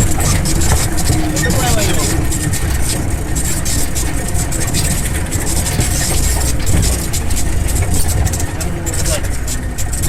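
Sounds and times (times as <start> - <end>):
body knocks and rattles: 0.0 - 10.0
low engine rumble: 0.0 - 10.0.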